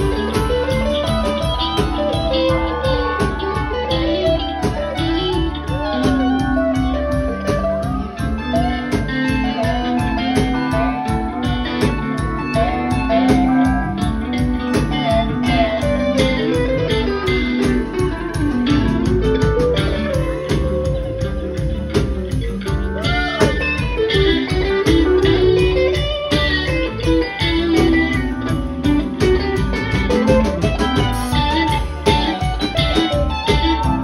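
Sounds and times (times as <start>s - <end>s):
lead electric guitar with bends: 0.0s - 34.0s
live rock band playing: 0.0s - 34.0s.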